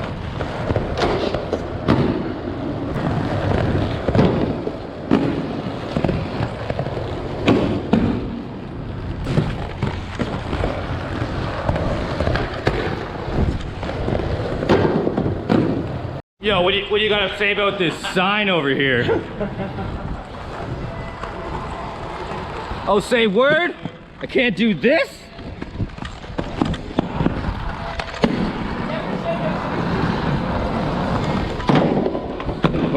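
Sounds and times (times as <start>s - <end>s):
skateboard wheels rolling: 0.0s - 32.9s.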